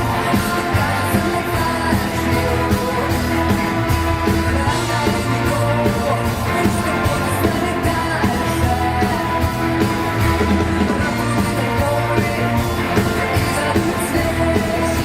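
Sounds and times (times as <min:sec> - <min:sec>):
person singing: 0:00.0 - 0:15.0
rock band playing live: 0:00.0 - 0:15.0.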